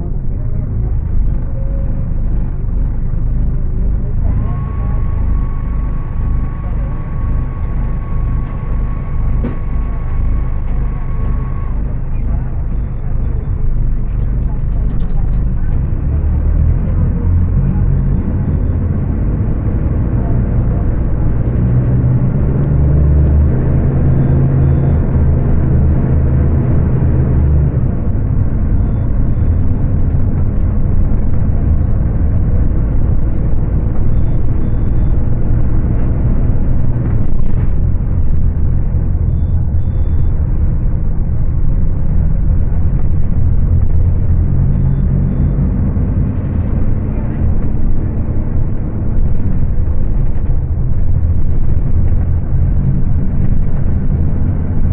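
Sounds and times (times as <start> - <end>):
bus engine revving high: 0.0 - 54.9.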